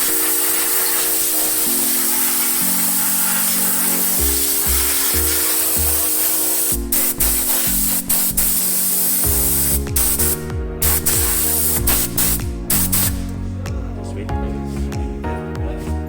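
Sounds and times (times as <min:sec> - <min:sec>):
aerosol spray hissing: 0:00.0 - 0:13.4
background music: 0:00.0 - 0:16.0.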